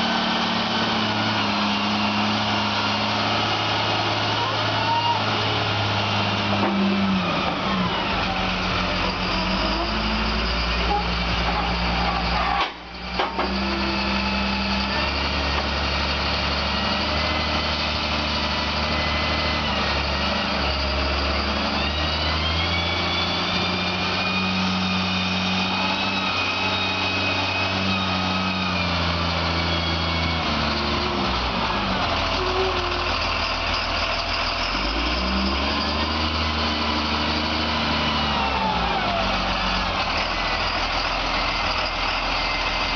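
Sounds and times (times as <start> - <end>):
wheel loader diesel engine: 0.0 - 42.9.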